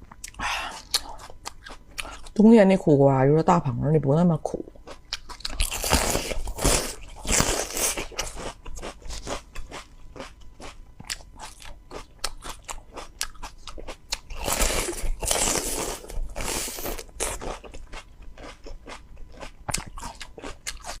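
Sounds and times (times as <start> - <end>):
chewing crisp bitter melon: 0.1 - 2.4, 4.8 - 21.0.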